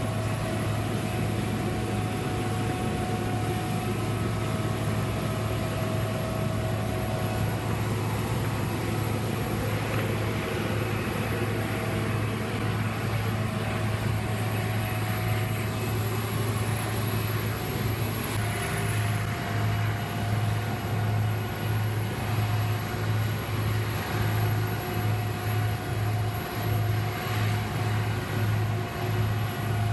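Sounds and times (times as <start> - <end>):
faint high whine: 0.0 - 29.9
heavy machine engine droning: 0.0 - 29.9.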